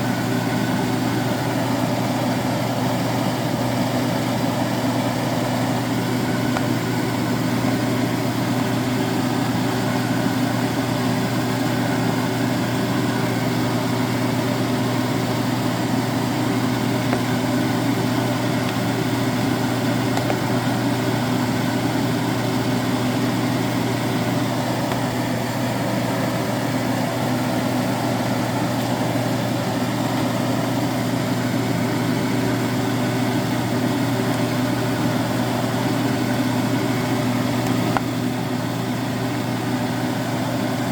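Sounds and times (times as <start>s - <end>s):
steady mechanical hum: 0.0s - 40.9s.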